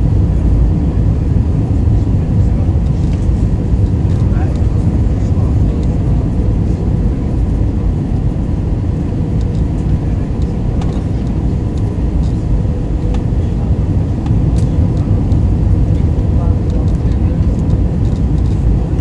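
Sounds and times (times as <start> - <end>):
jet engine and airflow roar: 0.0 - 19.0.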